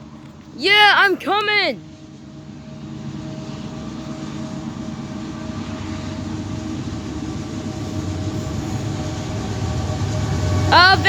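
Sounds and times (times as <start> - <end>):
train rumble: 1.9 - 11.0.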